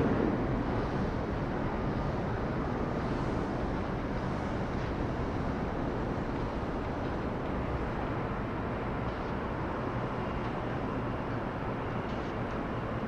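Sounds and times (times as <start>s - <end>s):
jet engines steady noise: 0.0s - 13.0s.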